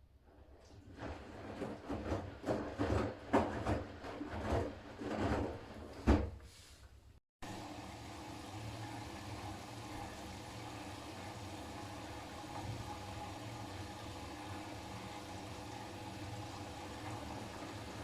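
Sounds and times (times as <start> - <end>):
washing machine tumbling laundry: 0.1 - 6.6, 7.4 - 18.0.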